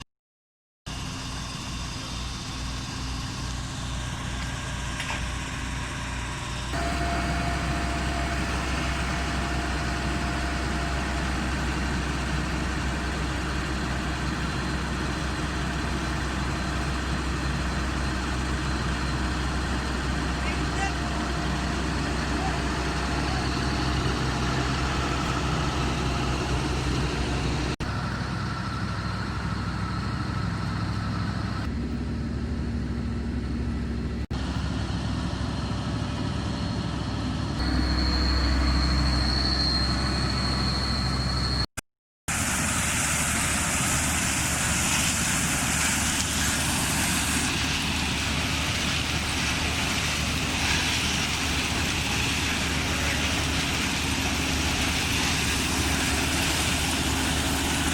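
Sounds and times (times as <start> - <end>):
hissy machine noise: 0.9 - 31.6, 37.6 - 41.7, 42.3 - 57.9
combine harvester engine hum: 0.9 - 41.7, 42.3 - 57.9.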